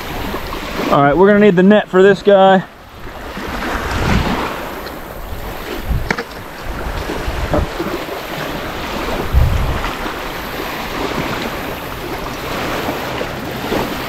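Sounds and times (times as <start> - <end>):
small waves washing on shore: 0.0 - 14.0
wind buffeting microphone: 2.7 - 14.0.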